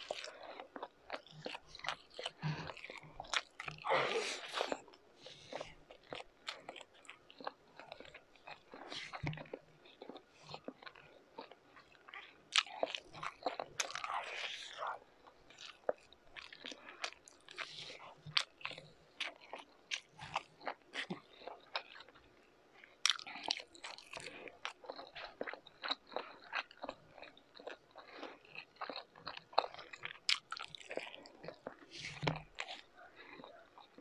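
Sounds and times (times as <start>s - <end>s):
person chewing with mouth smacks: 0.0s - 34.0s.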